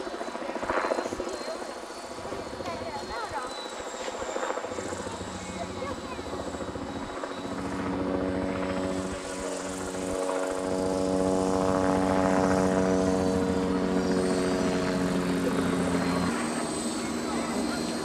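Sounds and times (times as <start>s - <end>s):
model helicopter motor whine: 0.0s - 18.0s.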